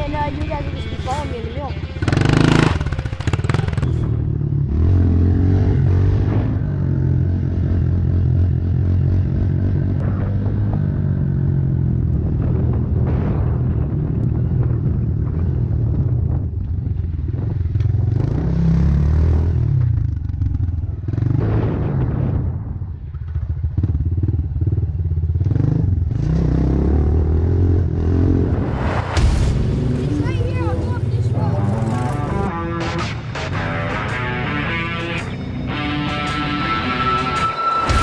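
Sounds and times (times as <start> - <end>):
motorbike engine revving: 0.2 - 13.3, 17.0 - 22.7, 23.4 - 29.0, 29.6 - 38.0.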